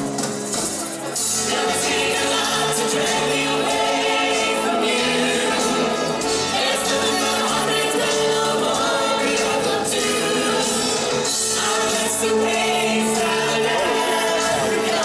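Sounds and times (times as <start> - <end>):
amplified music: 0.0 - 15.0
group singing in chorus: 1.2 - 15.0.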